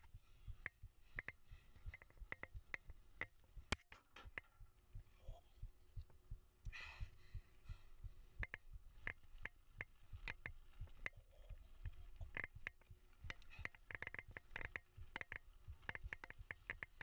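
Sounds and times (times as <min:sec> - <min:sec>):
low dull thumps: 0:00.0 - 0:17.0.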